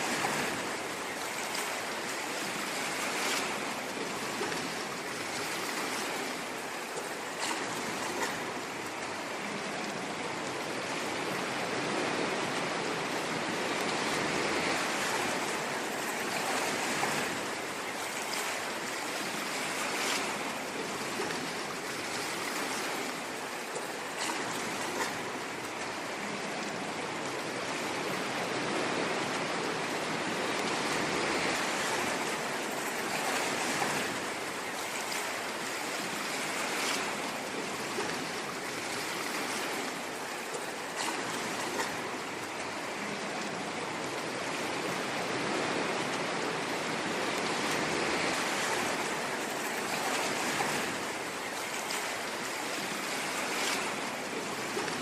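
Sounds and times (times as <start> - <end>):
ocean waves washing in: 0.0 - 55.0.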